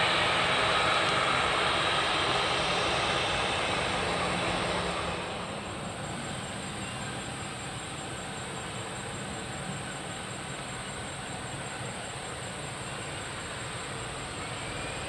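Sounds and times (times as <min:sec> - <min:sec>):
jet engine rumble and hiss: 0:00.0 - 0:15.0.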